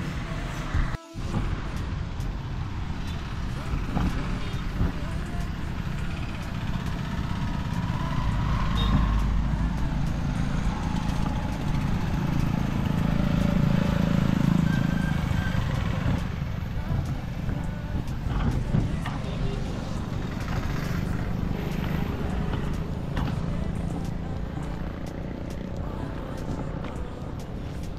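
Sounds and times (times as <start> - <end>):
vehicle engine rumble: 0.0 - 27.9.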